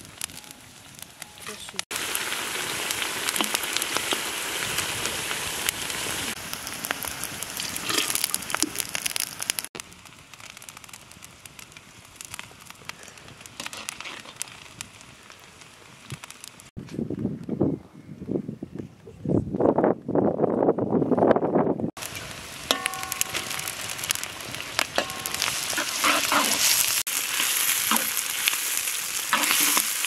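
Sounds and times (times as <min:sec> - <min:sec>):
onions sizzling in hot oil: 0:00.0 - 0:16.7, 0:22.0 - 0:30.0
wood fire crackling: 0:00.0 - 0:16.8, 0:22.0 - 0:30.0.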